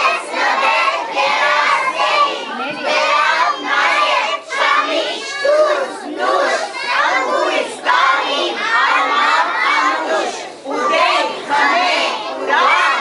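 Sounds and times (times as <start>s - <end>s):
children singing in unison: 0.0s - 13.0s.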